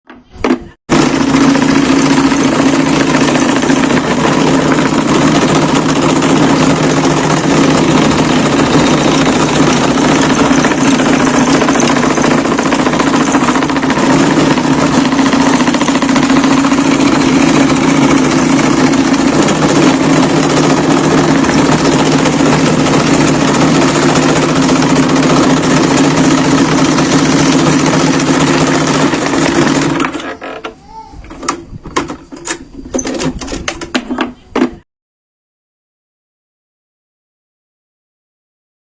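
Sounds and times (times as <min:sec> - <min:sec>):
chain mortiser cutting wood: 0:00.4 - 0:34.0.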